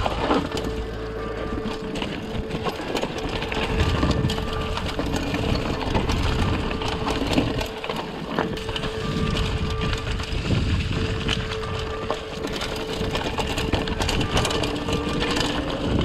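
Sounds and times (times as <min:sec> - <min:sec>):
bike rattling over rocks: 0:00.0 - 0:16.0
steady whir: 0:00.0 - 0:16.0
tires crunching through leaves: 0:00.0 - 0:16.0.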